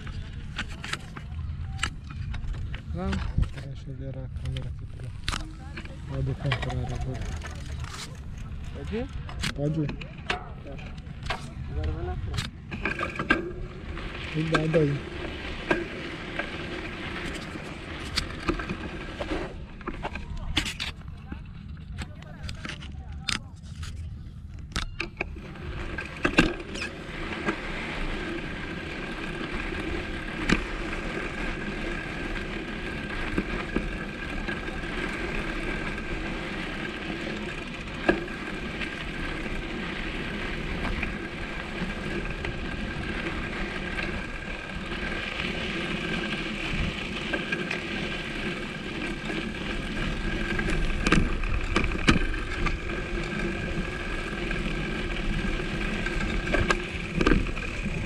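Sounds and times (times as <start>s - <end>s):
vehicle running on rough track: 0.0s - 58.0s.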